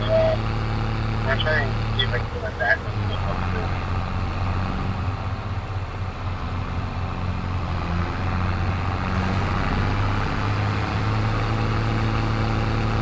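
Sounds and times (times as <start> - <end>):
farm machinery engine humming: 0.0 - 13.0.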